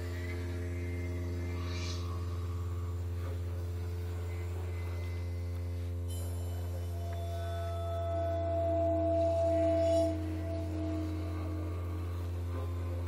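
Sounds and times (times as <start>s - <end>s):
high synth glides and chirps: 0.0s - 13.0s
low synthesizer drone: 0.0s - 13.0s.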